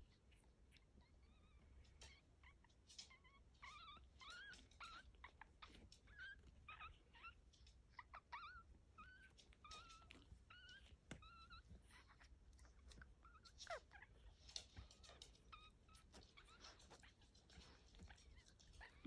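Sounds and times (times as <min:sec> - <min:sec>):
puppies squeaking: 0:00.0 - 0:19.0.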